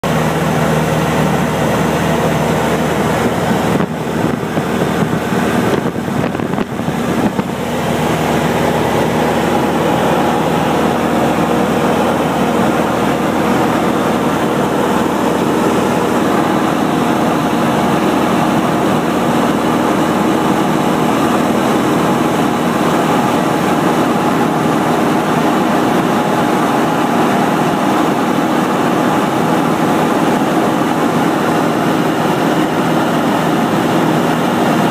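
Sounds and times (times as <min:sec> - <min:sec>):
airplane engine and propeller: 0:00.0 - 0:34.9.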